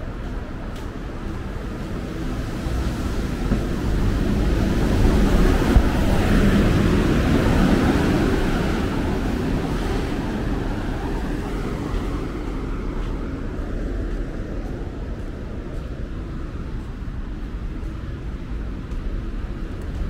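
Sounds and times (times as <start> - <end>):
passing vehicle rumble: 0.0 - 20.0.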